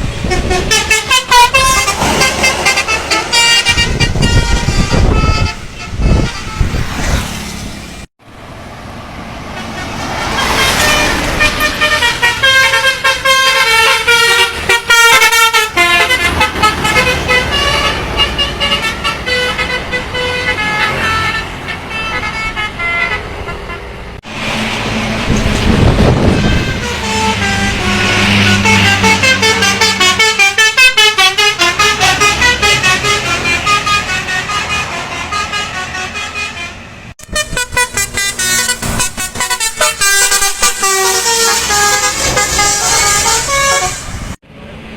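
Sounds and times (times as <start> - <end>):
musical bus air horns: 0.0 - 7.3, 9.6 - 24.2, 25.4 - 44.4.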